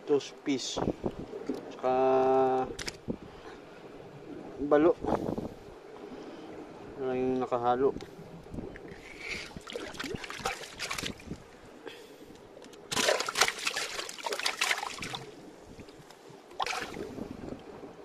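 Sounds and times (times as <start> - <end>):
water splashing and sloshing: 0.4 - 18.0.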